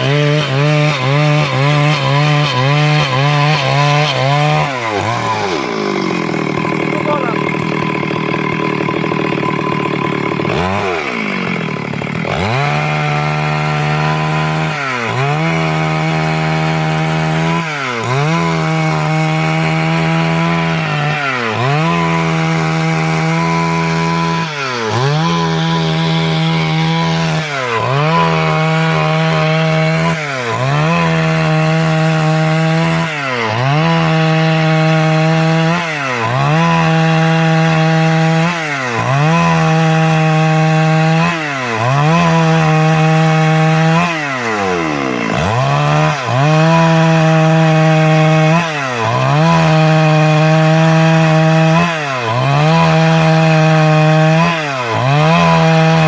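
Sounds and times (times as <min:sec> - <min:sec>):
chainsaw sawing through wood: 0:00.0 - 0:56.0.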